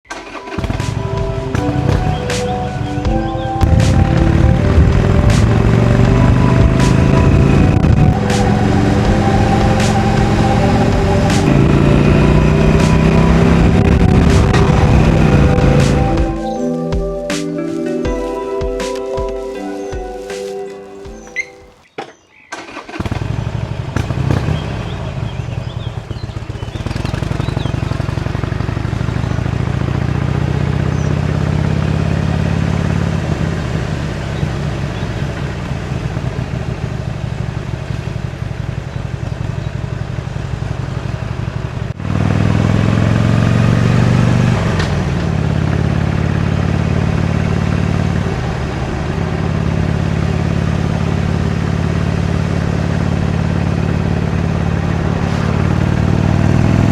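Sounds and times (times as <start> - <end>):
motorcycle engine revving: 0.0 - 21.9, 22.5 - 56.9.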